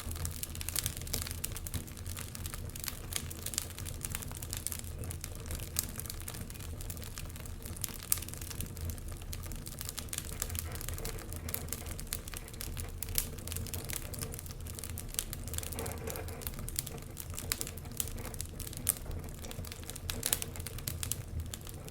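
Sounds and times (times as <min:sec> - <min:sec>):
low fire rumble: 0:00.0 - 0:21.9
wood fire crackling: 0:00.0 - 0:21.9.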